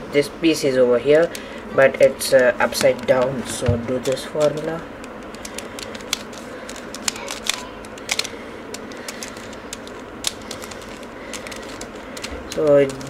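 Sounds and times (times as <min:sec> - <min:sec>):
puzzle cube clicking: 0:02.4 - 0:13.0.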